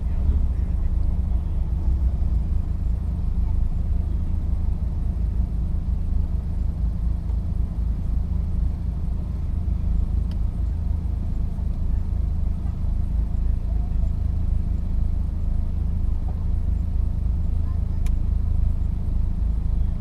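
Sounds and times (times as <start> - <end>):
car engine road and wind rumble: 0.0 - 20.0.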